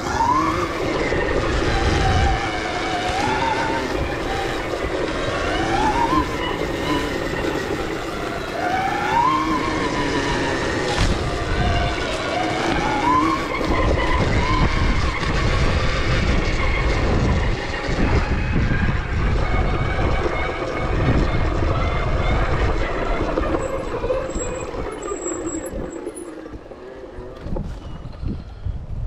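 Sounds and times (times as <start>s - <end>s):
bike tyres over dirt: 0.0s - 29.0s
wind on microphone: 0.0s - 29.0s.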